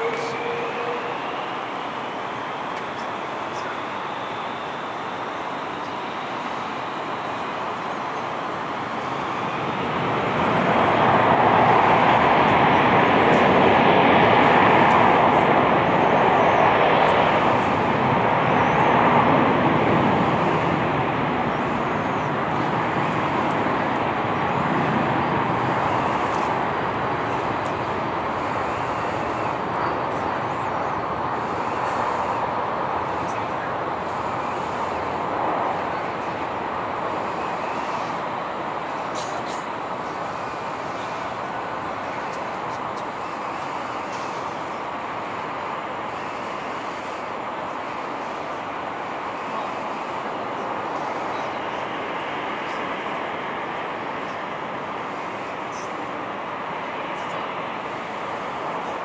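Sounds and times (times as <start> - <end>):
distant jet engines roaring: 0.0 - 59.0.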